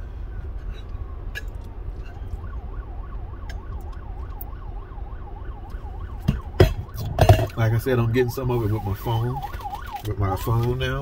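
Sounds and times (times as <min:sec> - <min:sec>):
emergency siren warbling: 0:02.0 - 0:11.0.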